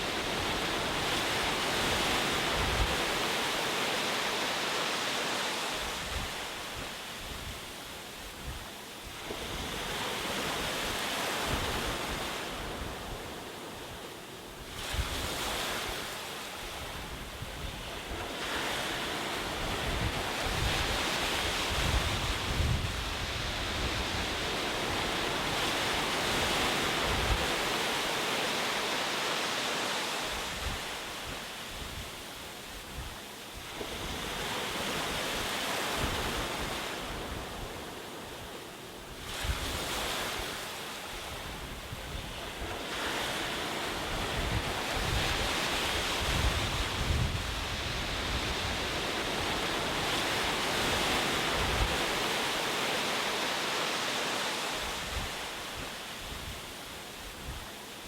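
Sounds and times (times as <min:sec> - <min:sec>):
wind noise: 0:00.0 - 0:03.8, 0:05.6 - 0:13.4, 0:14.6 - 0:28.1, 0:30.2 - 0:38.6, 0:39.2 - 0:52.7, 0:54.4 - 0:57.8
ocean waves breaking on shore: 0:00.0 - 0:58.0.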